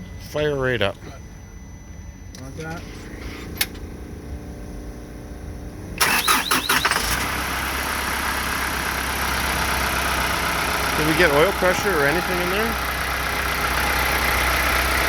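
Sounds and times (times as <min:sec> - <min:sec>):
diesel engine starting and idling: 0:02.2 - 0:15.0.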